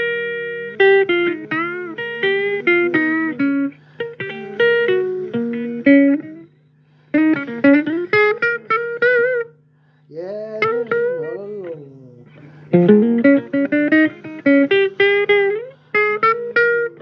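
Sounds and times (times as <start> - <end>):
blues guitar licks: 0.0 - 17.0
steady low hum: 0.0 - 17.0.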